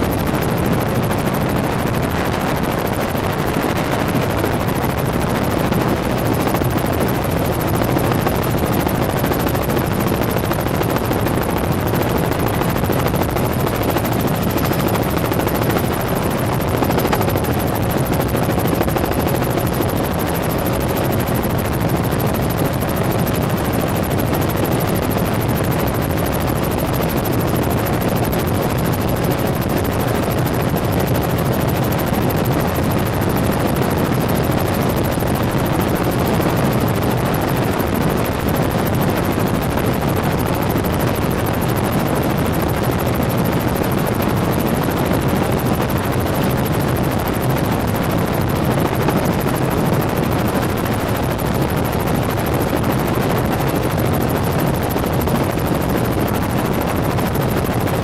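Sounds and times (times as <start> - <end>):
helicopter drone: 0.0 - 58.0.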